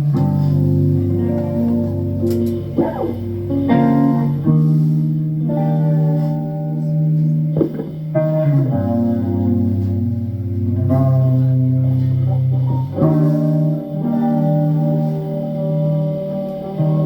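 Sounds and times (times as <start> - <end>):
bass: 0.0 - 17.0
lead guitar: 0.0 - 17.0.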